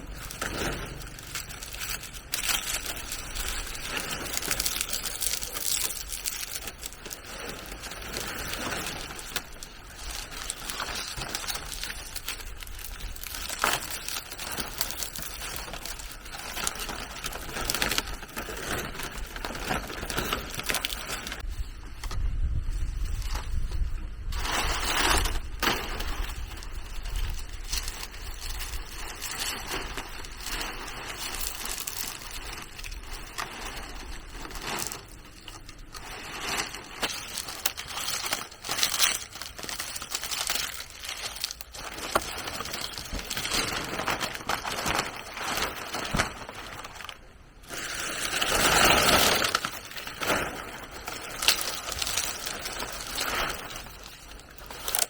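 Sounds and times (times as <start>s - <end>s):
rustling and crinkling: 0.0s - 55.0s.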